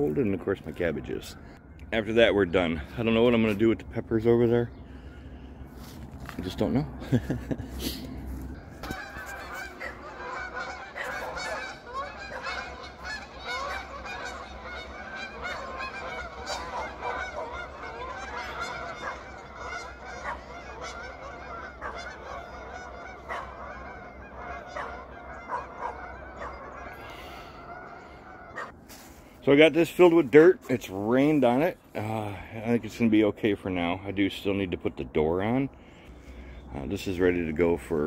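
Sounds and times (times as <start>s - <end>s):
geese honking: 0.0s - 38.0s.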